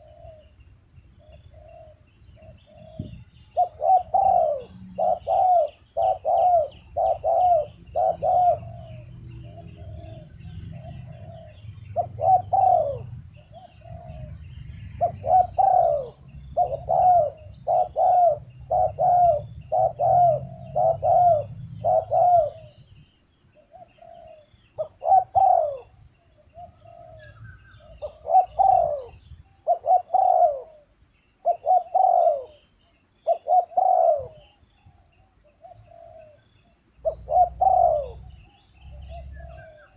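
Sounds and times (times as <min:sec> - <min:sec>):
dove cooing: 0:00.0 - 0:00.6, 0:01.2 - 0:39.9
small birds chirping faintly: 0:00.0 - 0:39.9.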